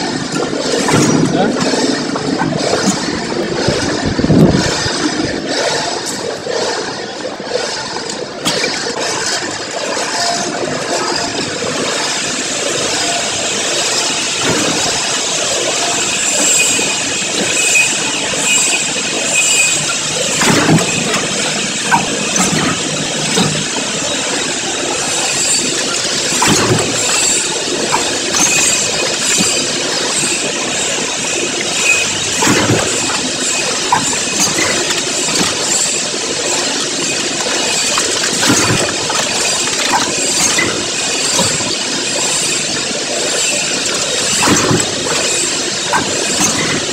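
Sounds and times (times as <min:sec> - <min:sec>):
packaging machine clatter: 0:00.0 - 0:46.9.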